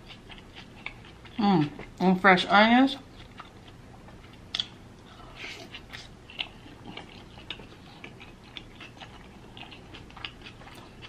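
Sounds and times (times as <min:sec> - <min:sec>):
close-up chewing: 0:00.0 - 0:02.0, 0:03.0 - 0:11.0.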